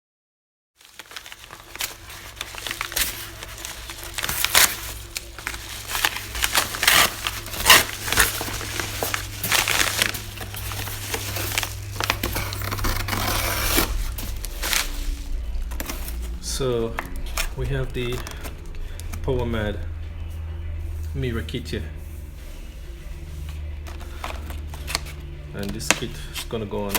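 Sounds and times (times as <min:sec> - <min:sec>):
packaging crinkling and rustling: 0:00.8 - 0:26.9
steady low hum: 0:01.0 - 0:26.9.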